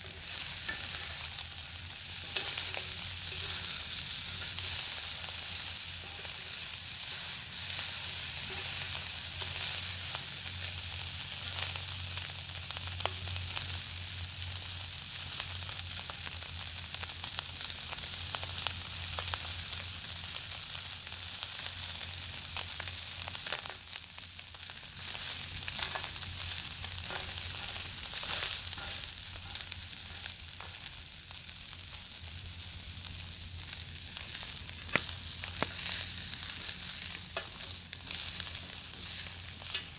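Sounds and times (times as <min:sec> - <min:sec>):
bacon sizzling and popping: 0:00.0 - 0:39.9.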